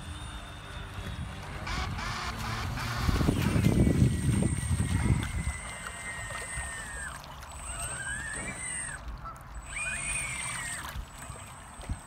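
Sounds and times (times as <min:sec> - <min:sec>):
electric motors whining: 0:00.0 - 0:12.0
thin high electronic whine: 0:00.0 - 0:12.0.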